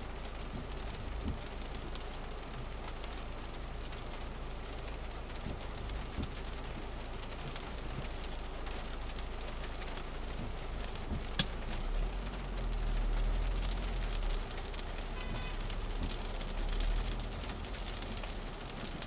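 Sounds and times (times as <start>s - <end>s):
heavy rain on car roof: 0.0s - 19.0s
low engine rumble: 0.0s - 19.0s.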